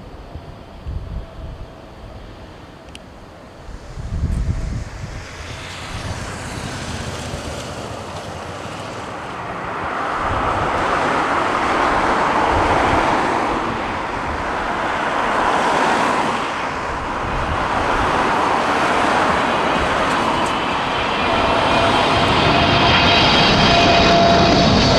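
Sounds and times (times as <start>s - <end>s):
airliner jet engines passing: 0.0s - 24.9s
wind buffeting microphone: 0.0s - 24.9s.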